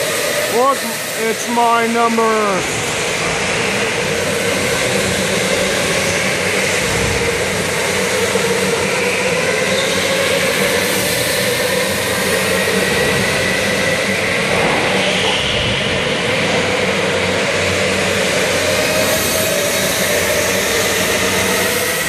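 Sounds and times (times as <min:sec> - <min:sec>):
constant rushing noise: 0:00.0 - 0:22.0.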